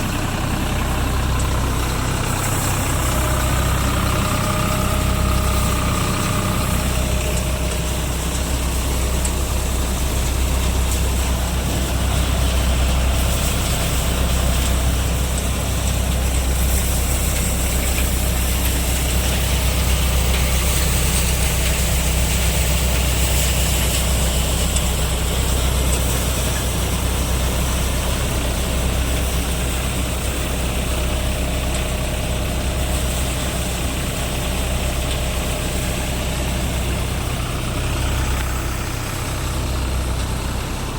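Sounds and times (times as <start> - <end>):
tractor engine drone: 0.0 - 40.9.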